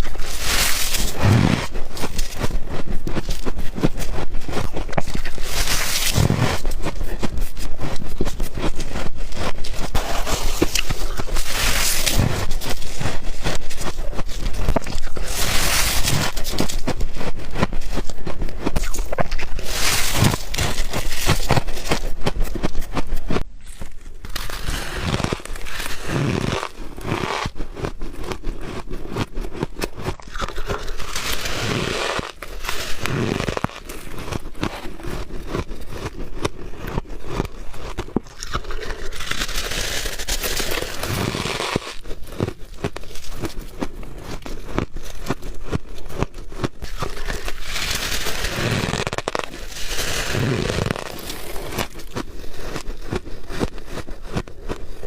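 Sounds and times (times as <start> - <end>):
ice crunching being chewed: 0.0 - 55.0.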